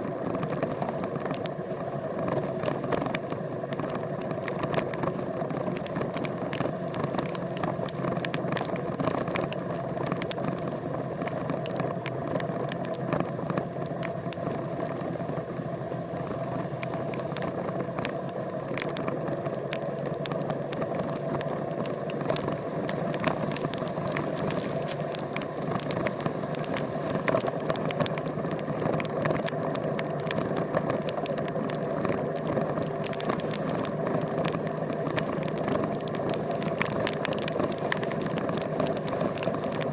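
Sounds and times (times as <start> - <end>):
engine running: 0.0 - 39.9
small clicks and rattles: 0.1 - 1.6, 2.2 - 15.4, 16.1 - 39.9.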